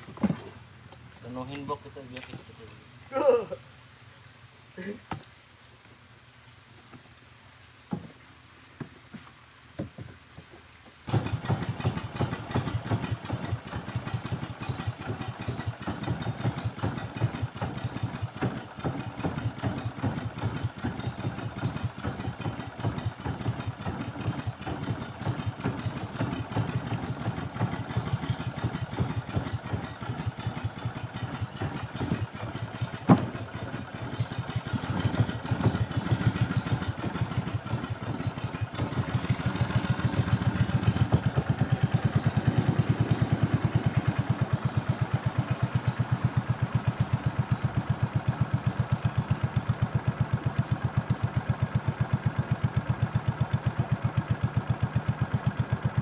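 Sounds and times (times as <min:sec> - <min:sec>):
small boat engine chugging: 0:00.0 - 0:03.7, 0:07.9 - 0:56.0.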